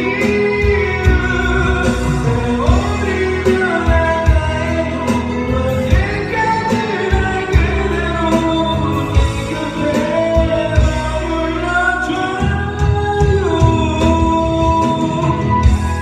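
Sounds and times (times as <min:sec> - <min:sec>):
rock ballad backing track: 0:00.0 - 0:16.0.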